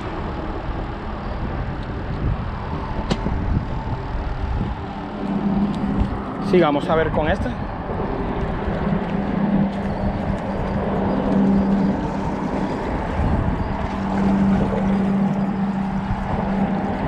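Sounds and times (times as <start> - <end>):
low engine-like hum: 0.0 - 17.0
water noise: 0.0 - 17.0
wind on microphone: 0.0 - 17.0.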